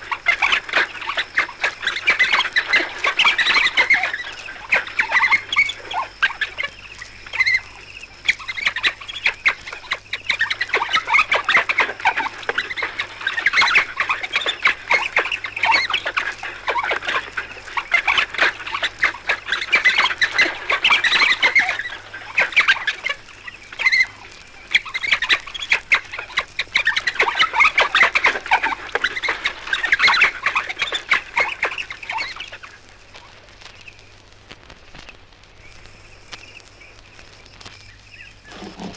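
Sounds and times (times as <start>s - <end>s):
wild dogs twittering: 0.0s - 33.4s, 38.1s - 38.9s.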